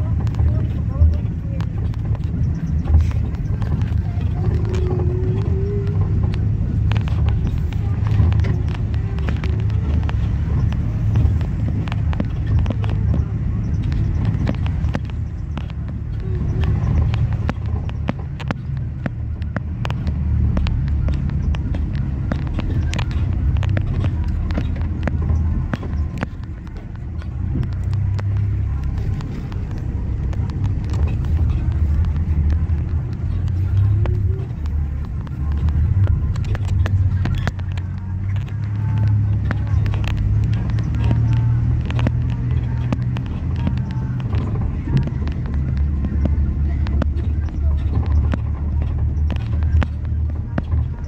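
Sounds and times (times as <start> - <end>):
small rattles and knocks: 0.0 - 51.0
vehicle engine and road rumble: 0.0 - 51.0.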